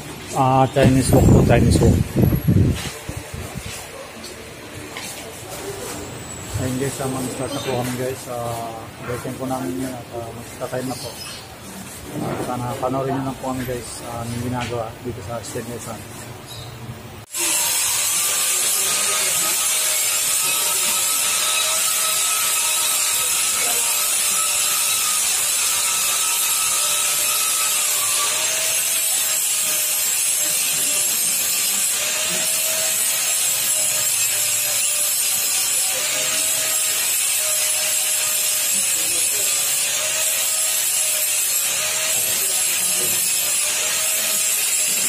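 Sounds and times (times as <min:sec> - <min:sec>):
power tool grinding steel: 0:00.0 - 0:14.4, 0:17.2 - 0:45.0.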